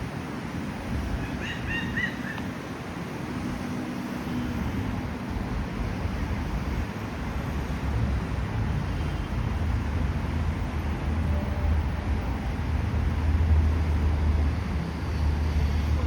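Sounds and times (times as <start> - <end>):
distant traffic: 0.0 - 16.0
wind: 0.0 - 16.0.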